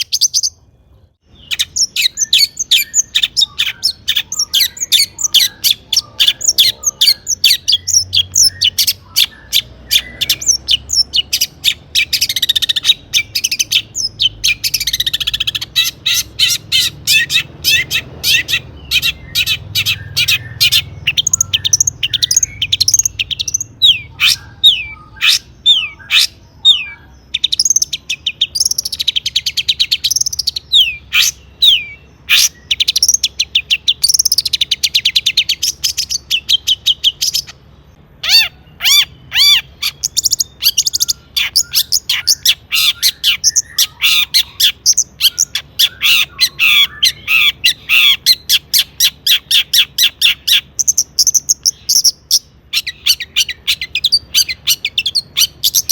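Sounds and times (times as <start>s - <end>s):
shrike singing: 0.0s - 55.9s.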